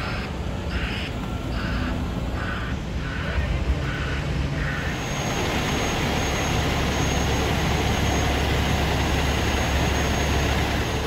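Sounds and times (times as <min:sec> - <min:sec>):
heavy engines rumbling: 0:00.0 - 0:11.0.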